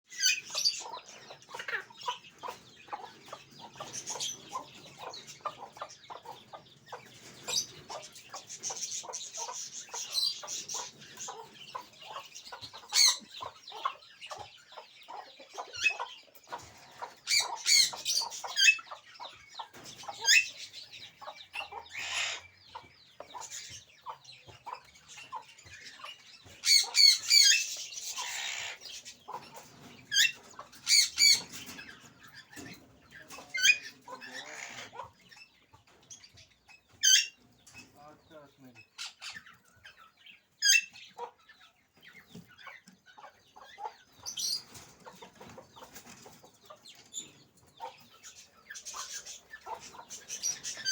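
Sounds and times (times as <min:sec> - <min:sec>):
birds chirping and clucking: 0:00.0 - 0:50.9.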